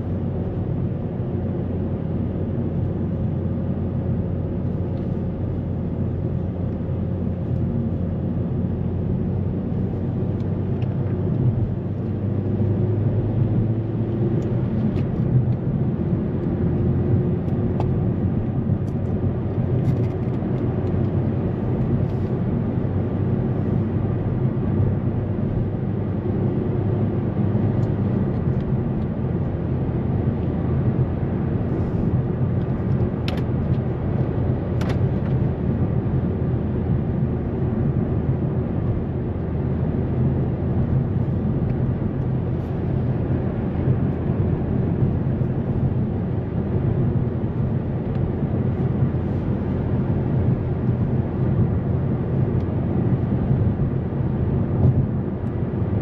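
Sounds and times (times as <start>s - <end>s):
car engine cruising: 0.0s - 56.0s.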